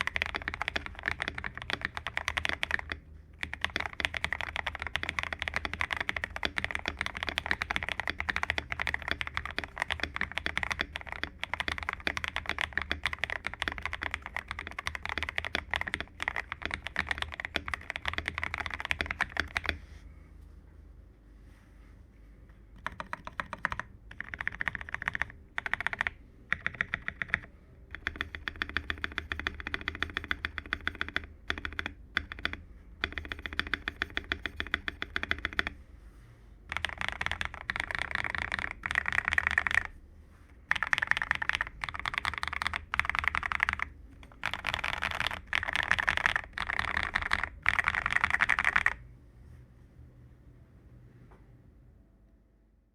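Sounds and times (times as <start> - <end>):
mechanical keyboard typing: 0.0 - 19.8, 22.8 - 35.8, 36.7 - 40.0, 40.7 - 49.0.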